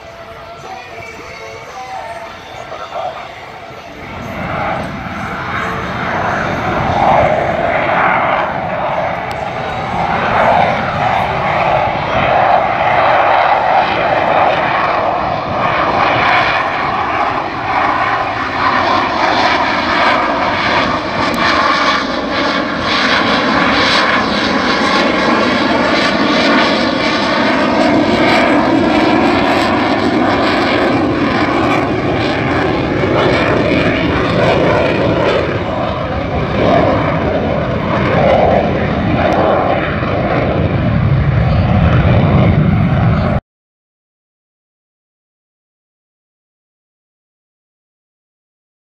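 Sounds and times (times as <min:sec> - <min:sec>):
fighter jet flying overhead: 0:00.0 - 0:43.4.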